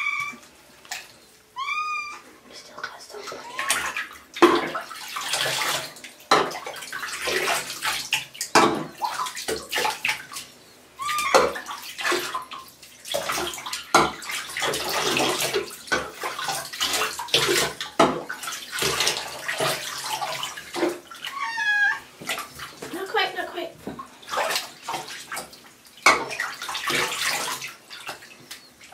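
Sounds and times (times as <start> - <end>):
bathwater splashing and sloshing: 0.0 - 28.9.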